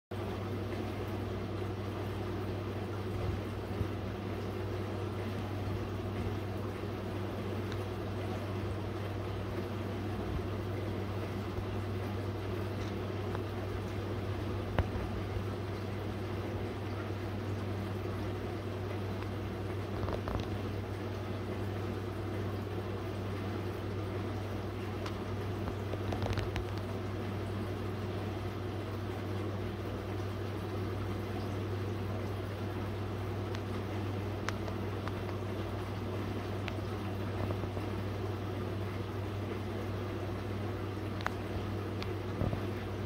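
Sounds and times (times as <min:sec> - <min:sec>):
aquarium filter humming: 0:00.1 - 0:43.0
water bubbling and trickling: 0:00.2 - 0:43.0.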